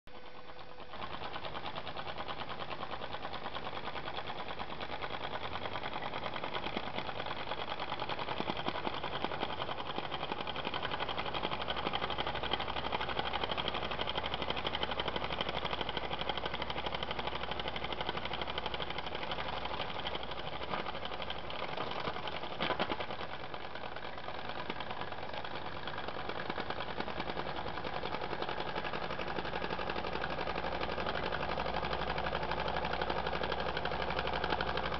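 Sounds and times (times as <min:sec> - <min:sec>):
model steam engine chuffing: 0:00.1 - 0:34.9.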